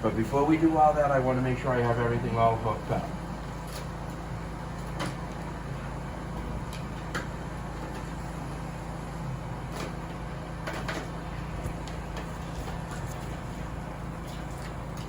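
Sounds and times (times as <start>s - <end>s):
low hum of equipment: 0.0s - 15.0s.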